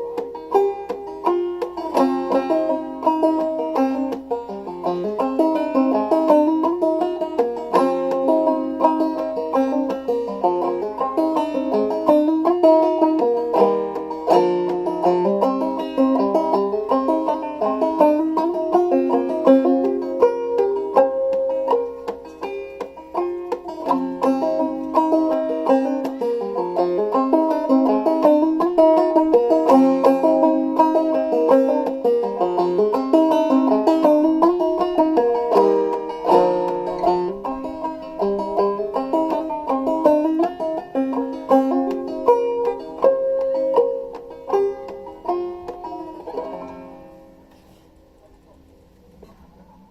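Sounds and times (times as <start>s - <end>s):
banjo playing old-time tune: 0.0s - 49.9s.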